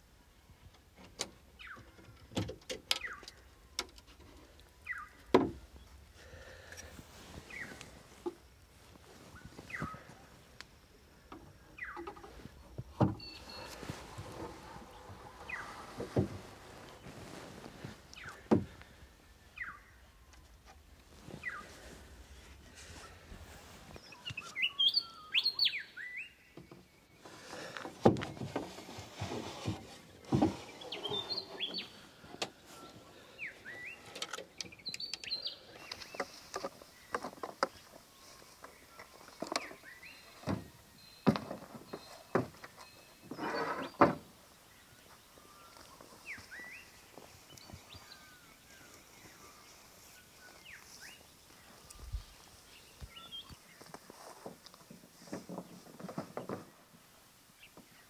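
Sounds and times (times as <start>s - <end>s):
birds chirping: 0.7s - 28.9s, 29.7s - 58.0s.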